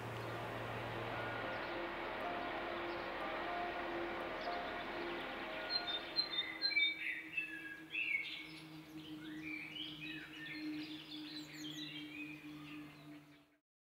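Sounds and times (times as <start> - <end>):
songbirds chirping and whistling: 0.0 - 13.4.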